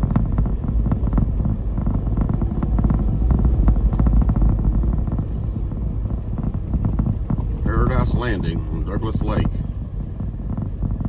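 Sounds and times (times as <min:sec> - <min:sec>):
tyre and engine rumble: 0:00.0 - 0:11.0.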